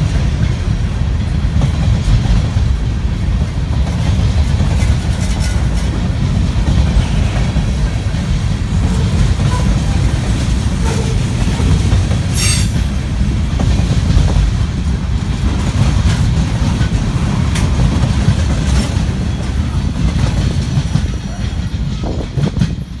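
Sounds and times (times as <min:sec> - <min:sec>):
freight train rumbling: 0:00.0 - 0:23.0
wheels clicking over rail joints: 0:00.0 - 0:23.0.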